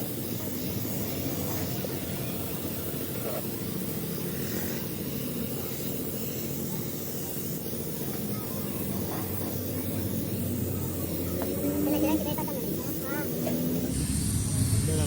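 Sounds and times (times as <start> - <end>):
compressed air hissing: 0.0 - 15.0
motor humming: 0.0 - 15.0.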